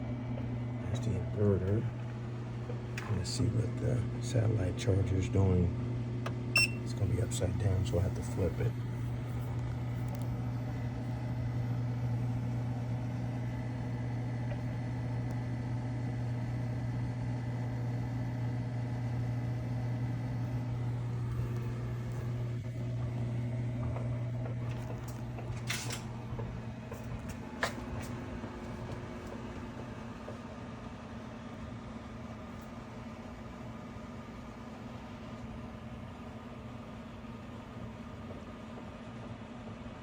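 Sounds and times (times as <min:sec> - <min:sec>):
fan noise: 0:00.0 - 0:40.0
low electrical hum: 0:00.0 - 0:40.0.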